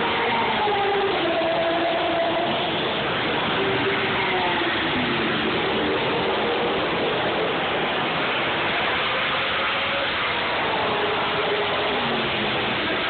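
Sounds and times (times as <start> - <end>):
cars passing by: 0.0 - 13.0
racing car engines: 0.0 - 13.0.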